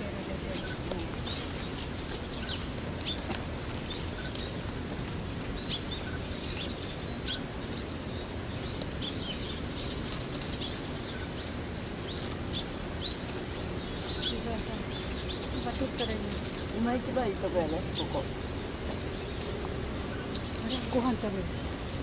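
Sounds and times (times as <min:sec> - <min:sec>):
low outdoor background hum: 0:00.0 - 0:22.0
small birds chirping: 0:00.0 - 0:22.0.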